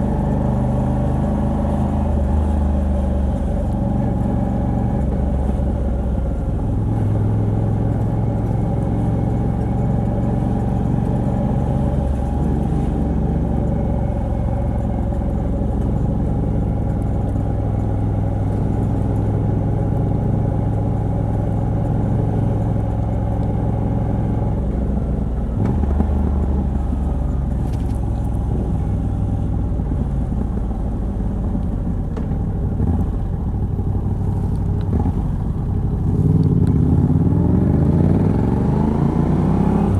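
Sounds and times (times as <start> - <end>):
motorcycle v-twin engine cruising: 0.0 - 39.9.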